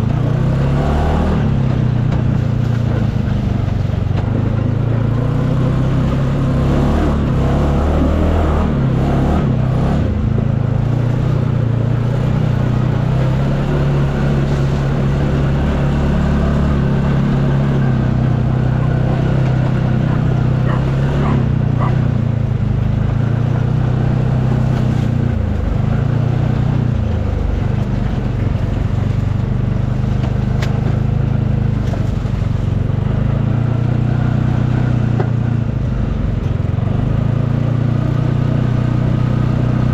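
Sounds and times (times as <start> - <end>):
utility vehicle engine running: 0.0 - 39.9.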